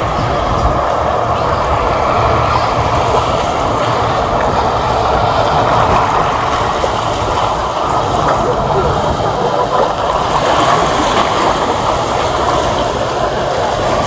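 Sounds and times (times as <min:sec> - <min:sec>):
boat engines running: 0:00.0 - 0:14.0
loud rushing noise: 0:00.0 - 0:14.0.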